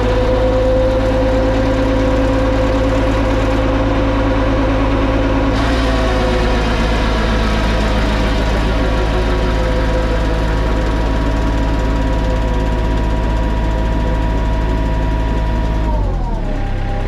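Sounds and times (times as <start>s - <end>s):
hydraulic whine: 0.0s - 17.0s
mini excavator running: 0.0s - 17.0s.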